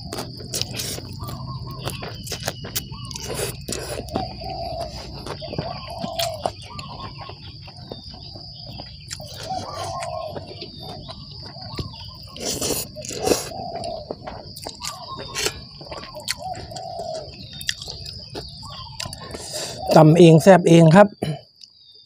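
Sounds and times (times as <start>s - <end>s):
bird cooing: 0.0s - 20.0s
high-pitched insect drone: 0.0s - 21.3s
close-up eating sounds: 0.0s - 21.8s.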